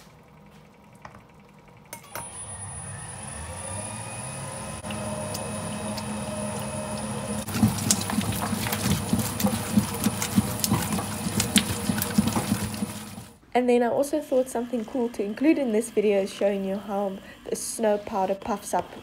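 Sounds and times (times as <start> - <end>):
electric mixer humming: 2.0 - 13.4, 14.2 - 19.0.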